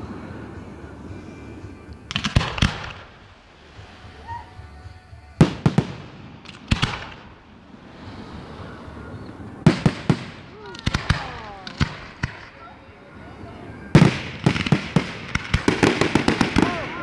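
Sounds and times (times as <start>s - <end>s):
faint fireworks crackle: 0.0s - 17.0s
fireworks bangs: 0.0s - 17.0s.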